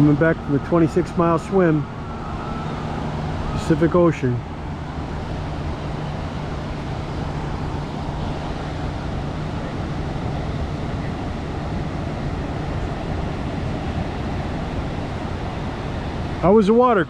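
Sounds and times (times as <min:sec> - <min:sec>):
ocean surf rushing: 0:00.0 - 0:17.0
wind: 0:00.0 - 0:17.0.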